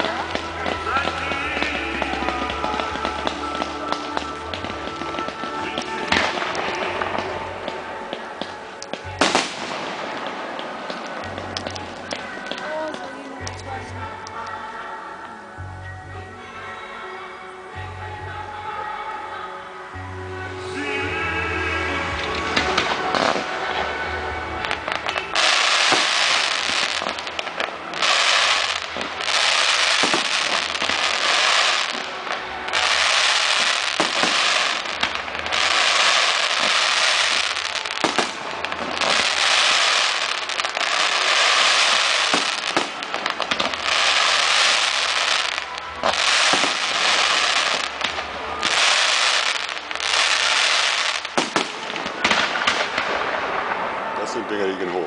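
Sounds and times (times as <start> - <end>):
fireworks bangs: 0.0 - 13.8, 22.0 - 55.0
fireworks crackling: 0.0 - 15.5, 20.7 - 55.0.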